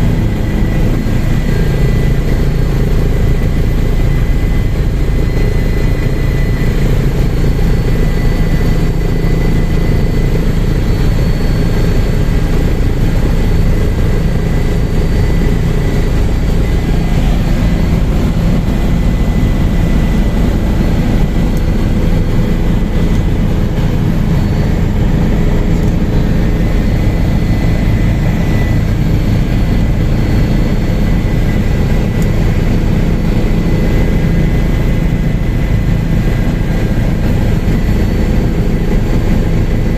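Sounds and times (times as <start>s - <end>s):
helicopter rotor drone: 0.0s - 39.9s
high-pitched whine: 0.0s - 39.9s.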